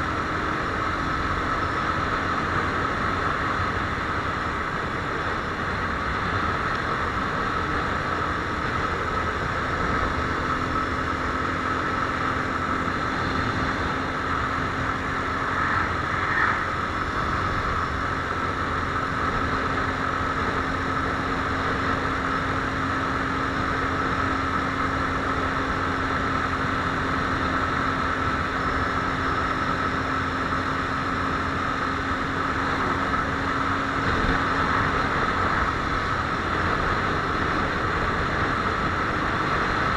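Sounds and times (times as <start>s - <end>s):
constant rush of noise: 0.0s - 39.9s
motorcycle engine running: 0.0s - 39.9s.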